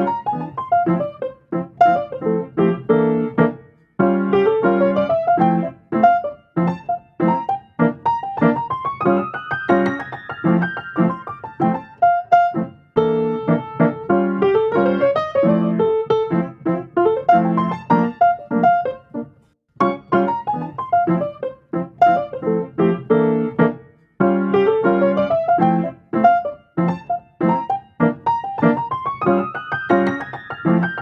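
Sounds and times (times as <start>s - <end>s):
lively piano melody: 0.0s - 31.0s.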